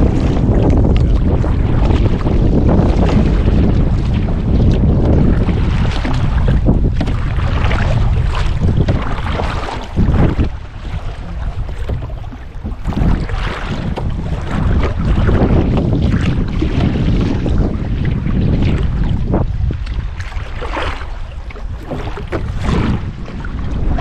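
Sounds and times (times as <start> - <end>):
water splashing around canoe: 0.0 - 24.0
wind rumbling on microphone: 0.0 - 24.0.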